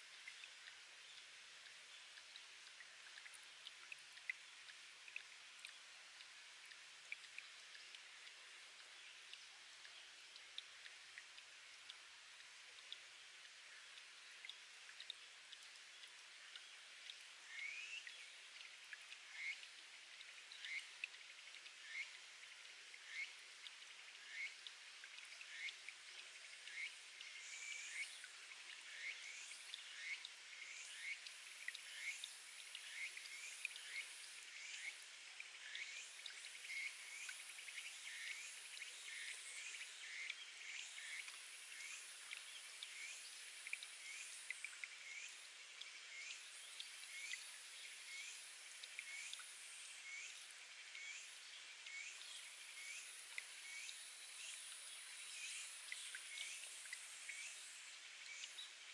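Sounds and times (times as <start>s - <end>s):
trickling water hiss: 0.0s - 58.9s
water dripping into a pool: 0.0s - 58.9s.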